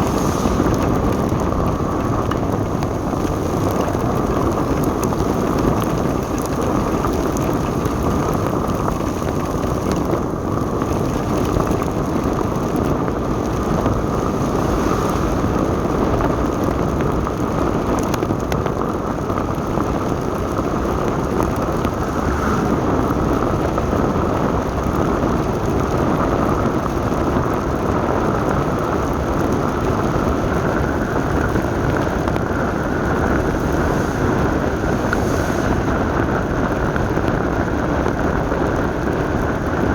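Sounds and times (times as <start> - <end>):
moving vehicle rumble: 0.0 - 39.9
steady rain: 0.0 - 39.9.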